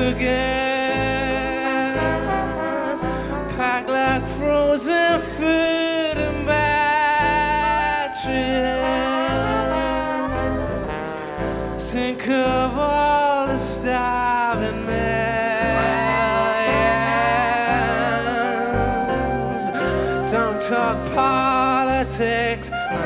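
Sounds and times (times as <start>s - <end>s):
jazz band with brass: 0.0s - 23.0s
man singing: 0.0s - 23.0s.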